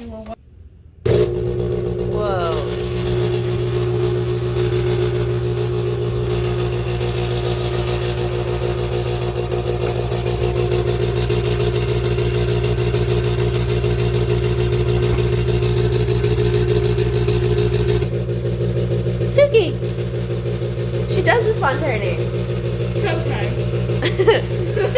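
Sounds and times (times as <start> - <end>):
electric mixer humming: 1.1 - 24.9.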